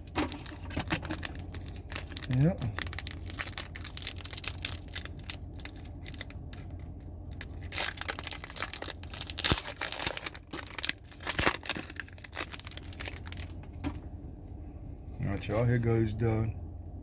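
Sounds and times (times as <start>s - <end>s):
foil wrapper ripping: 0.0s - 13.7s
foil wrapper crinkling: 0.0s - 13.9s.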